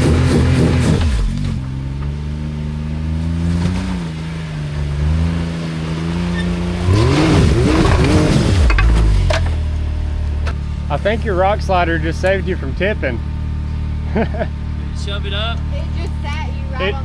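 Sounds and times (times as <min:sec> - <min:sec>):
utility vehicle engine revving: 0:00.0 - 0:17.0.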